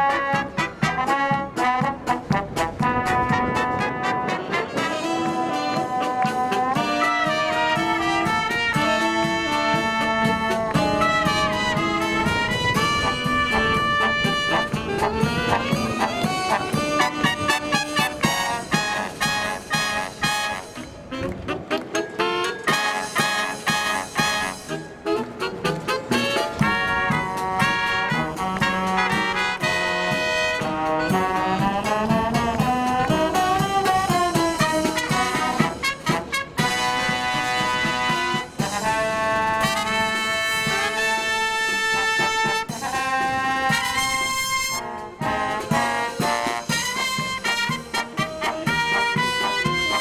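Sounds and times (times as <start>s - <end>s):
steady drum beat: 0.0s - 21.1s, 22.7s - 50.0s
brass band playing: 0.0s - 50.0s.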